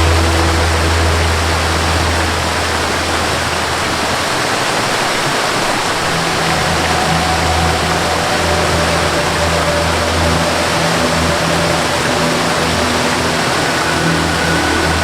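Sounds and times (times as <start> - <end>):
soft sustained melody: 0.0 - 4.8, 5.7 - 15.0
waterfall rushing: 0.0 - 15.0.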